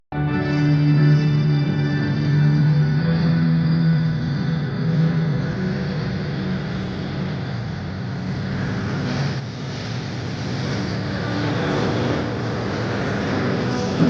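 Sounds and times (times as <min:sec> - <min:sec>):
noisy sweep: 0:00.1 - 0:14.0.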